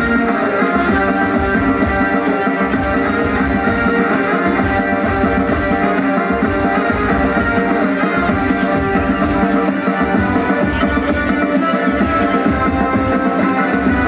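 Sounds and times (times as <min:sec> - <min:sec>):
live band playing amplified music: 0:00.0 - 0:14.0.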